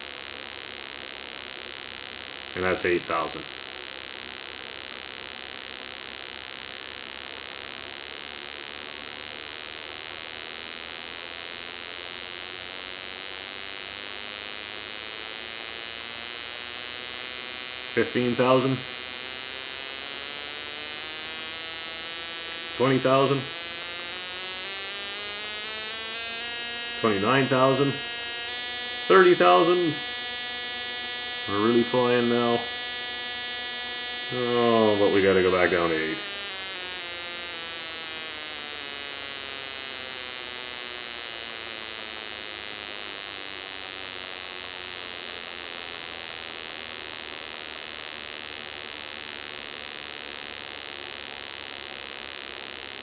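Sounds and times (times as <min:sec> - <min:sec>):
spark plug electric buzz: 0:00.0 - 0:53.0.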